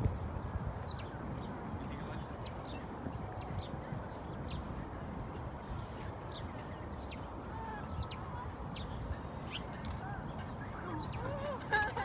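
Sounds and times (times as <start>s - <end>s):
outdoor background rush: 0.0s - 12.0s
small birds chirping: 0.4s - 11.5s.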